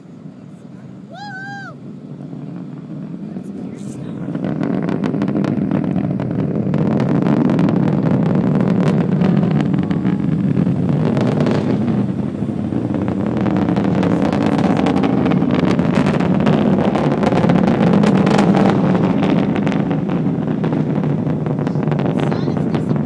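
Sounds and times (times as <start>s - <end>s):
distant rocket engine rumble: 0.0s - 23.0s.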